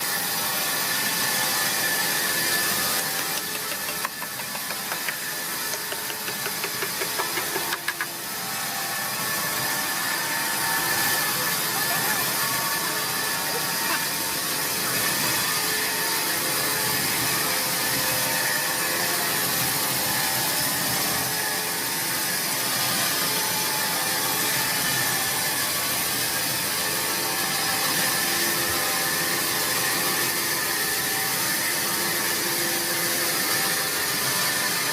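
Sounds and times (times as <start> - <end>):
woodworking power tool whirring: 0.0 - 34.9.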